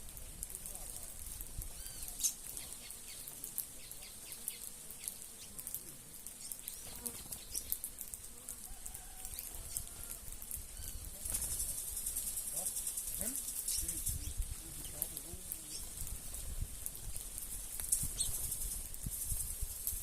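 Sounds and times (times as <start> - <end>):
flock of small birds chirping: 0.0 - 20.0.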